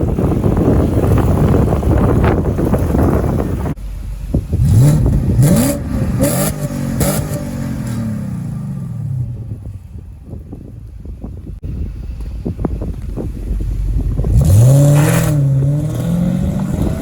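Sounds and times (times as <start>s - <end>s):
car engine revving: 0.2s - 9.7s, 12.7s - 17.0s.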